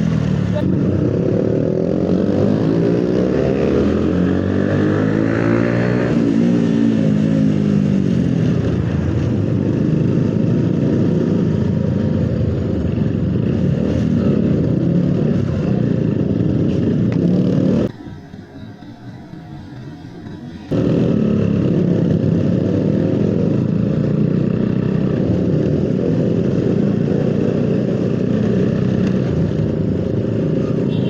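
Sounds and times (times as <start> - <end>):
loud motorcycle engines: 0.0 - 31.0.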